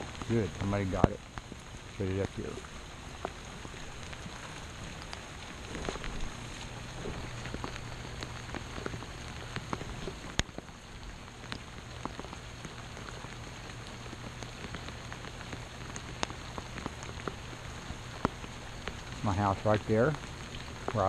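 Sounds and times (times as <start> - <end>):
raindrops ticking sharply: 0.0 - 21.0
steady rain: 0.0 - 21.0.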